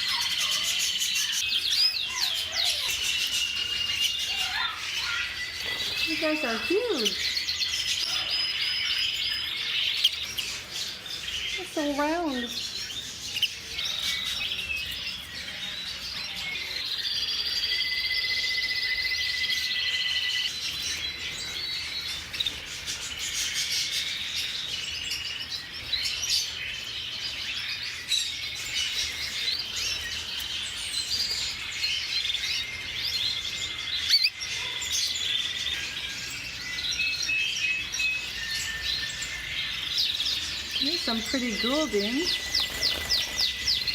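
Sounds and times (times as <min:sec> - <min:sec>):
canaries singing: 0:00.0 - 0:43.9.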